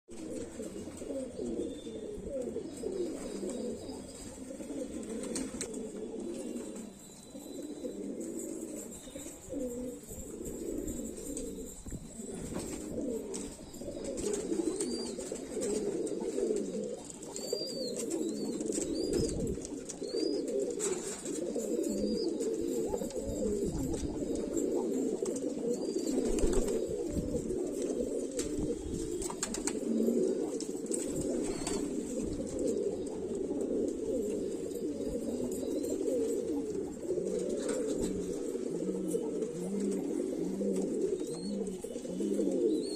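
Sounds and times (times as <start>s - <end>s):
pigeons cooing: 0.1s - 42.9s.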